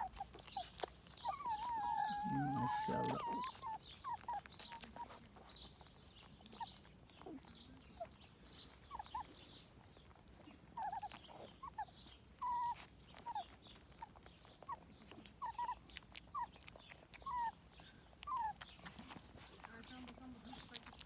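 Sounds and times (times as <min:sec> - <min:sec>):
puppies whimpering and squeaking: 0:00.0 - 0:21.0.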